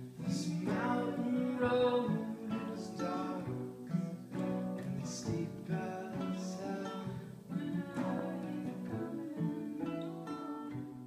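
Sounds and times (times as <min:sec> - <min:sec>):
acoustic guitars strumming: 0:00.0 - 0:11.0
cello: 0:00.0 - 0:11.0.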